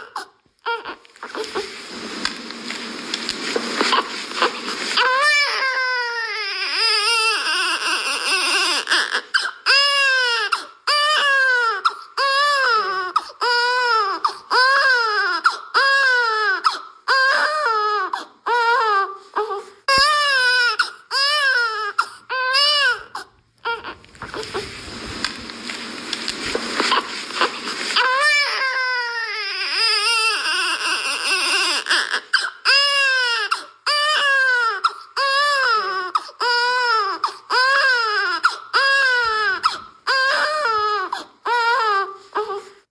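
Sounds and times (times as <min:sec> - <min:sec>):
baby crying: 0:00.0 - 0:01.7, 0:03.5 - 0:24.6, 0:26.7 - 0:42.8.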